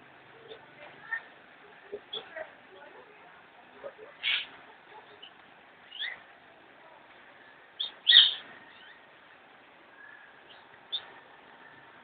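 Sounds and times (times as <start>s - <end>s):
lovebirds chirping: 0.2s - 12.0s.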